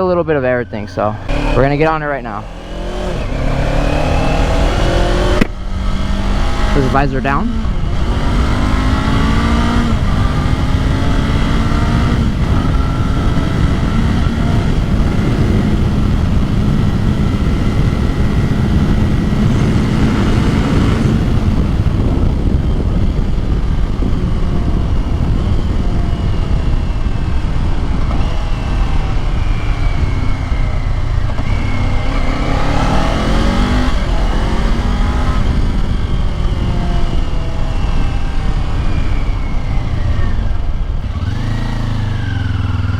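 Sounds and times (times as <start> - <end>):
motorcycle engine revving: 0.6 - 42.9
wind on microphone: 0.7 - 42.9.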